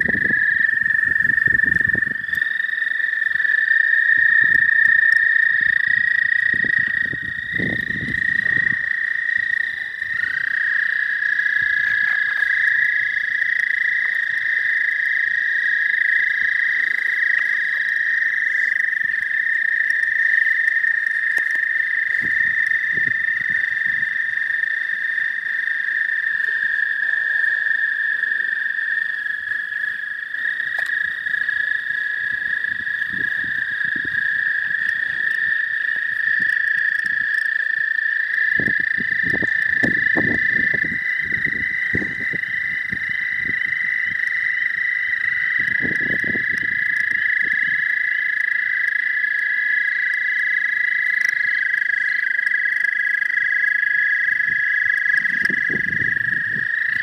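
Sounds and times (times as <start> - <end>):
toads trilling: 0.0 - 57.0.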